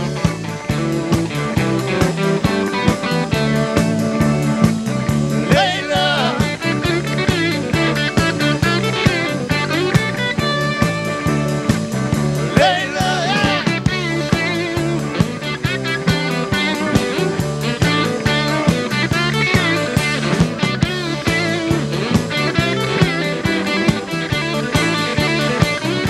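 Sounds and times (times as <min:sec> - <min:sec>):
bass and drums: 0:00.0 - 0:26.0
lead guitar: 0:00.0 - 0:26.0.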